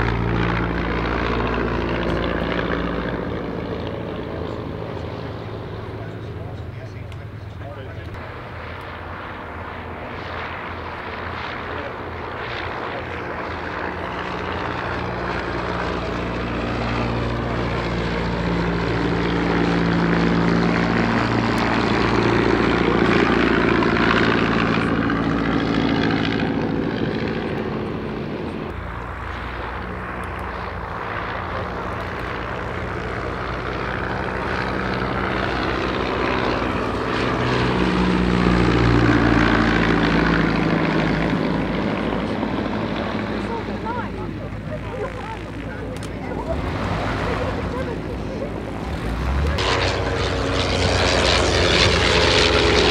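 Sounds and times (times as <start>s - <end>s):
biplane engine and propeller droning: 0.0s - 52.9s.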